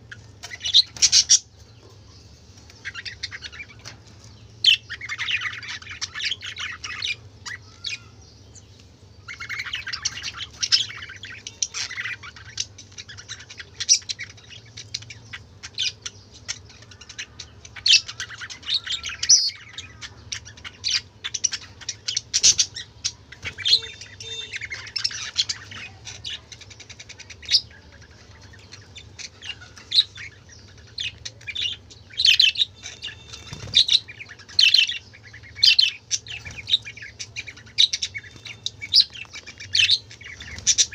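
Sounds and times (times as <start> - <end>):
budgerigars chirping: 0.0 - 1.9, 2.8 - 4.0, 4.6 - 8.2, 9.2 - 40.9.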